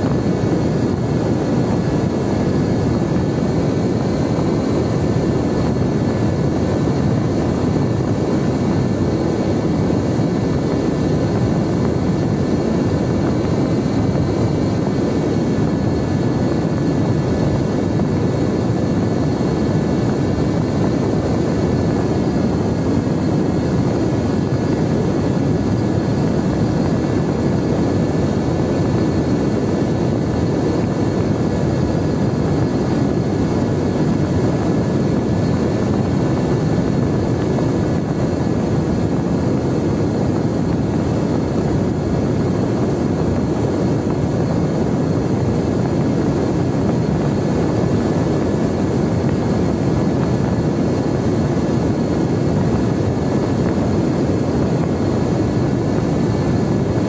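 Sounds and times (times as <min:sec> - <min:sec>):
wind rushing over airframe: 0:00.0 - 0:57.0.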